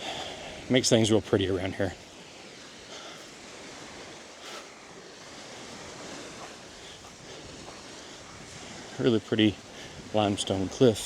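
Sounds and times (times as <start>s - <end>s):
surf washing onto beach: 0.0s - 11.0s.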